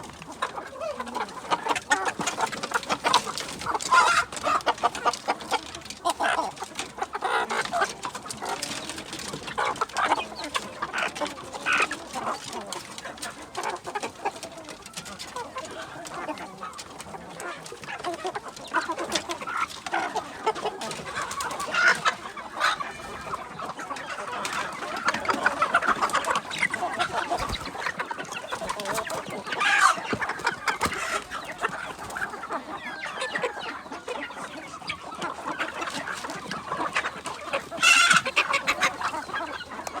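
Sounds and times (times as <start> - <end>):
chickens clucking and calling: 0.0 - 40.0.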